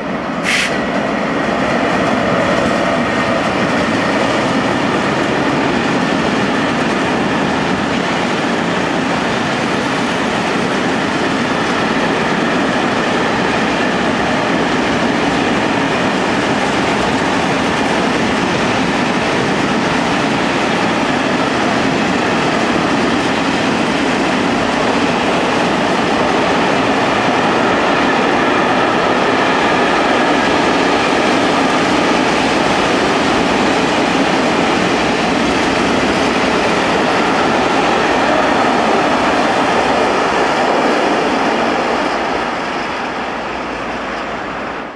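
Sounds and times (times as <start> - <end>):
freight train wheels on rails: 0.0 - 44.9.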